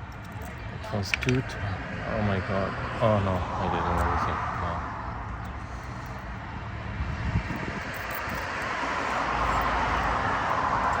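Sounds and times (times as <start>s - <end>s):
motor vehicle running hum: 0.0s - 11.0s.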